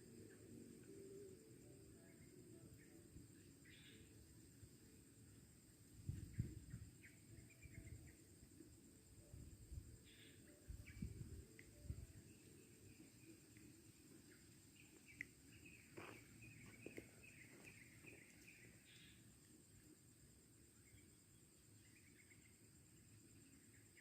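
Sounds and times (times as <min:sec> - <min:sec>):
high insect drone: 0:00.0 - 0:24.0
small birds chirping: 0:02.1 - 0:08.8, 0:09.7 - 0:19.9, 0:20.7 - 0:24.0.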